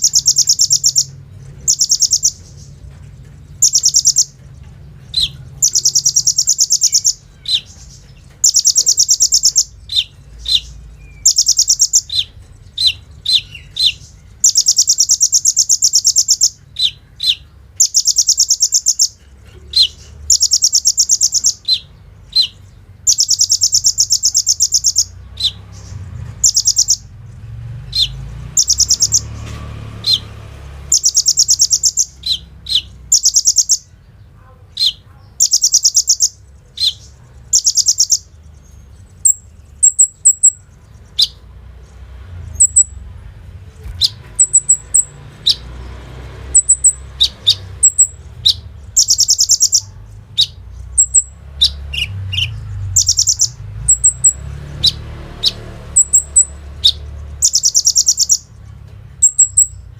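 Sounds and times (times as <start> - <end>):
sharp bird chip notes: 0.0 - 2.8, 3.5 - 30.3, 30.9 - 34.0, 34.8 - 41.5, 43.7 - 45.7, 46.4 - 59.9
sunbird rattling trills: 0.0 - 30.3, 30.9 - 34.0, 34.9 - 41.9, 46.4 - 59.9
very high bird twitters: 0.0 - 59.9.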